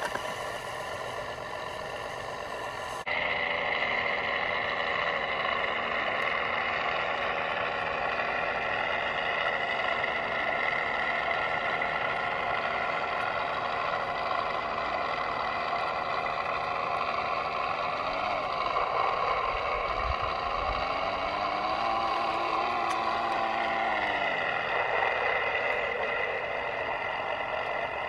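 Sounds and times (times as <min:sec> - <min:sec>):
model locomotive electric whine: 0:00.0 - 0:28.0.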